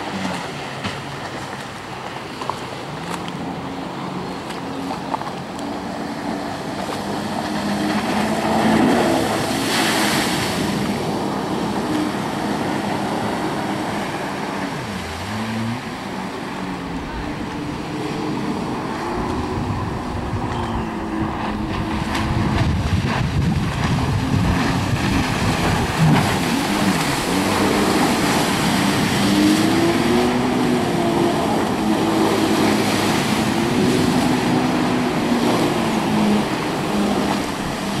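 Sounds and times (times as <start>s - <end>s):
jet ski engine revving: 0.0s - 38.0s.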